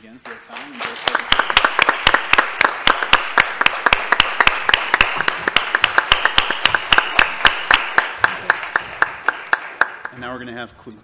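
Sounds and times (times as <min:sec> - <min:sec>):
audience applauding: 0:00.2 - 0:10.4
sharp close claps: 0:00.2 - 0:10.4.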